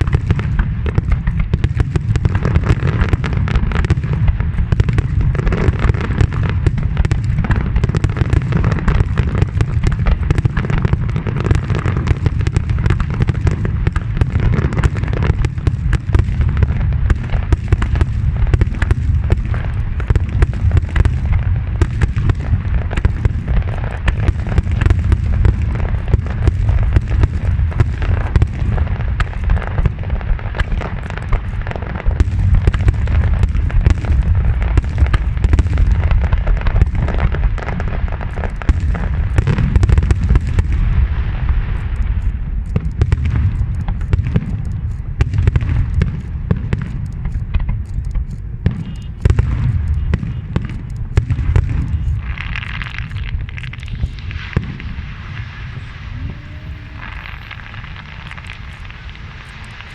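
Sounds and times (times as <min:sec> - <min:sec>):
fireworks booming: 0:00.0 - 0:59.9
fireworks crackling: 0:00.0 - 0:59.9.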